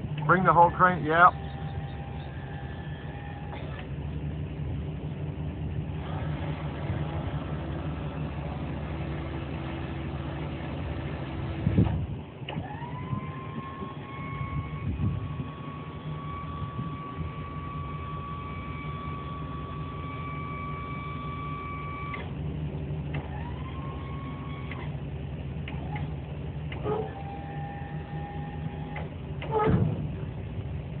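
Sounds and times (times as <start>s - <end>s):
crane motor whining: 0.0s - 31.0s
truck engine idling: 0.0s - 31.0s.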